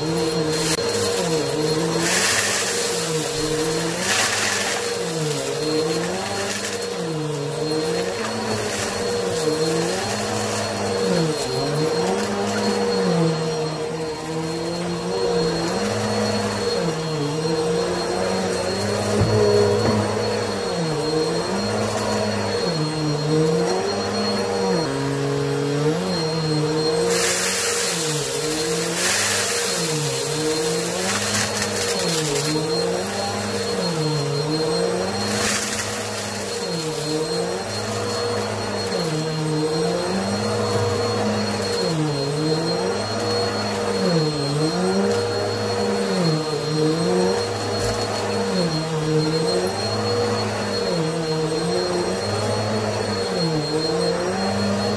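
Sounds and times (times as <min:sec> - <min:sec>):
vacuum cleaner running on carpet: 0:00.0 - 0:54.9.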